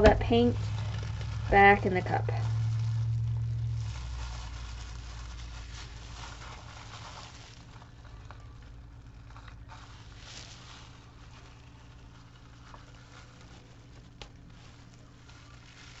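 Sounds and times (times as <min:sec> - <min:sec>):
plastic sheeting crinkling: 0:00.0 - 0:16.0.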